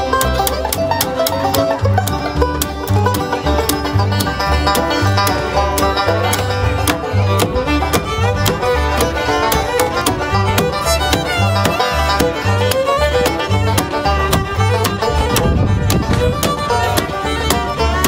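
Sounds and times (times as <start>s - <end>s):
banjo picking: 0.0s - 18.0s
fiddle melody: 0.0s - 18.0s
upright bass notes: 0.0s - 18.0s.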